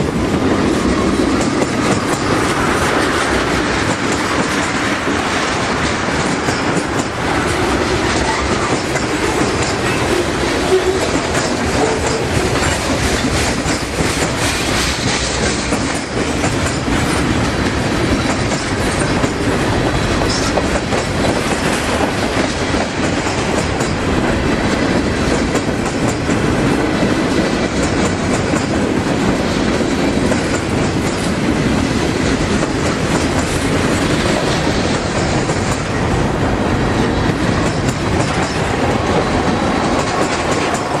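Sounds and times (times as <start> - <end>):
freight train wheels clattering: 0.0 - 41.0.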